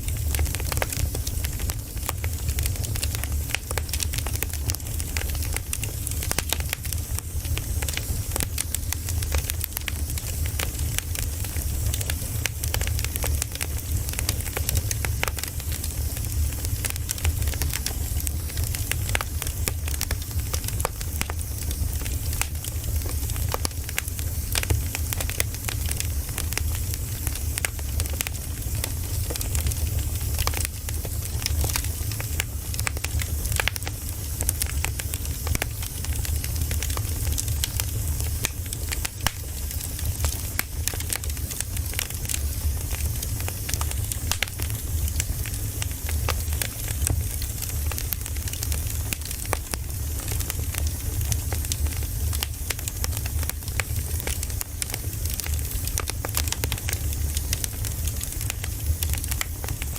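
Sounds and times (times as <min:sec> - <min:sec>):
burning wood crackling and popping: 0:00.0 - 0:59.9
low rumble of flames: 0:00.0 - 0:59.9.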